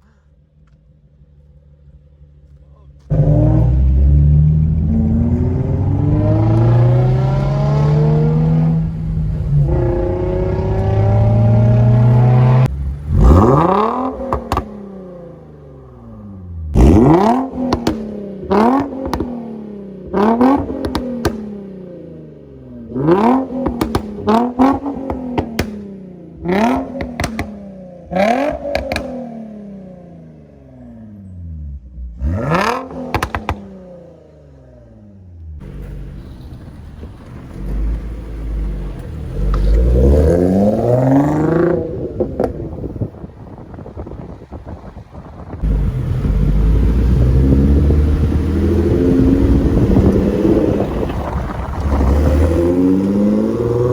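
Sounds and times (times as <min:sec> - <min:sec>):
exhaust popping and crackling: 0:00.0 - 0:29.5, 0:32.0 - 0:34.1, 0:35.4 - 0:53.9
car engine accelerating and revving: 0:01.4 - 0:53.9.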